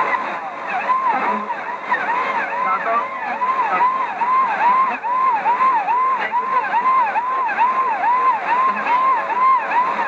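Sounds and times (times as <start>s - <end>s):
radio static: 0.0s - 10.0s
swooping siren-like jamming tone: 0.0s - 10.0s.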